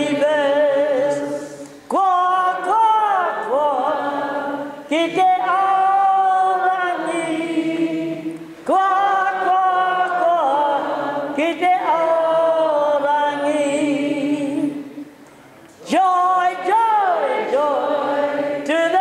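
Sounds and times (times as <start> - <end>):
woman leading a chant-like song: 0.0 - 8.1, 8.7 - 14.9, 15.9 - 19.0
audience singing along: 0.0 - 15.1, 15.9 - 19.0.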